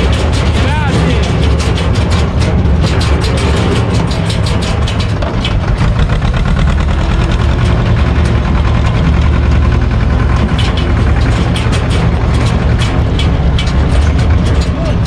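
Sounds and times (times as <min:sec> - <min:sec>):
tractor diesel engine running: 0:00.0 - 0:15.0
trailer clattering over gravel: 0:00.0 - 0:15.0.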